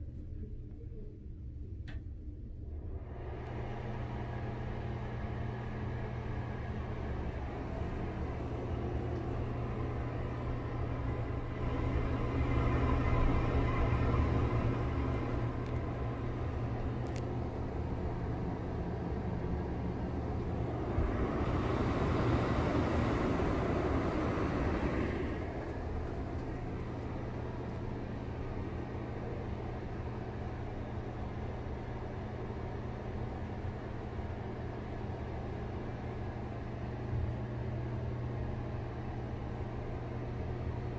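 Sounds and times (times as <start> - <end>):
exhaust fan running: 0.0 - 40.9.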